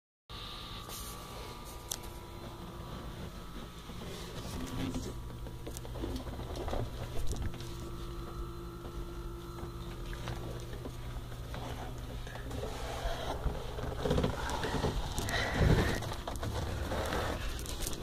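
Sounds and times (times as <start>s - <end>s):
low machinery hum: 0.3s - 18.0s.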